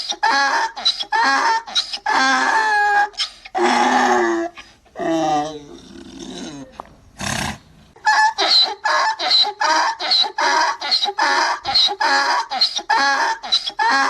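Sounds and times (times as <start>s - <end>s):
donkey braying: 0.0s - 14.0s.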